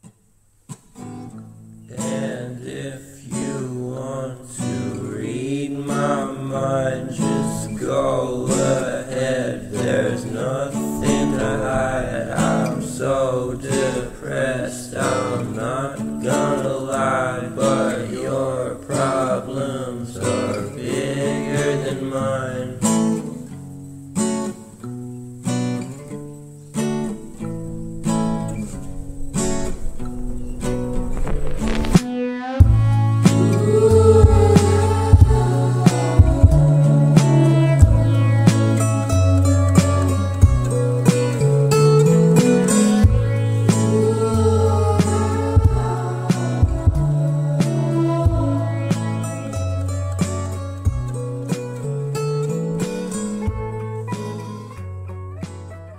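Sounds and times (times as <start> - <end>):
strummed acoustic guitar: 0.0 - 55.9.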